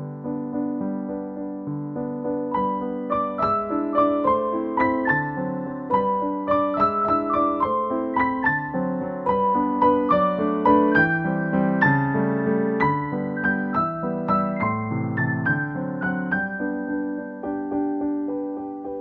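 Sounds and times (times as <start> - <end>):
electric piano melody: 0.0 - 19.0.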